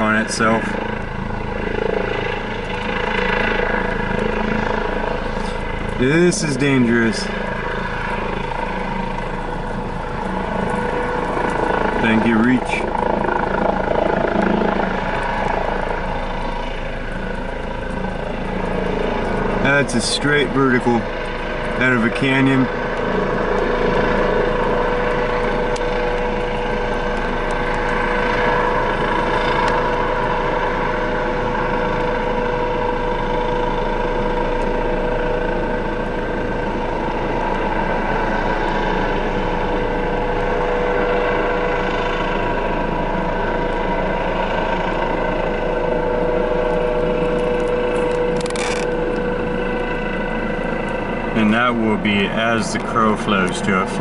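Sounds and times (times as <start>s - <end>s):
helicopter taking off: 0.0s - 54.0s.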